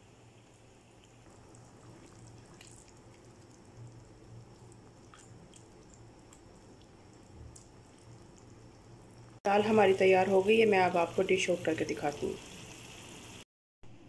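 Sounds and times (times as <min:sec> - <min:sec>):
low steady hum: 0:00.0 - 0:13.2
lentils simmering with pops: 0:00.0 - 0:13.4.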